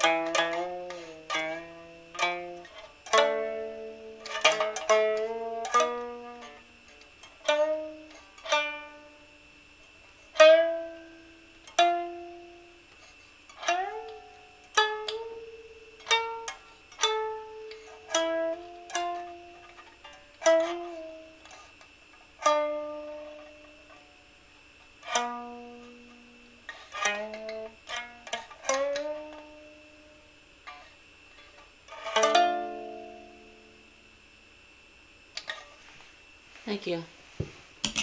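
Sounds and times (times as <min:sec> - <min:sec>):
plucked string instrument: 0:00.0 - 0:24.2, 0:24.9 - 0:33.9.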